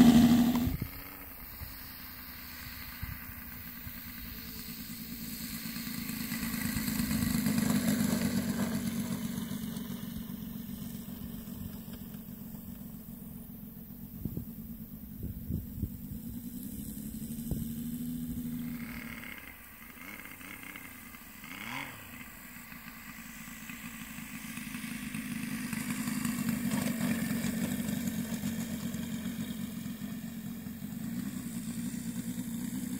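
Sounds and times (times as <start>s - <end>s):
model plane engine at low throttle: 0.0s - 32.9s.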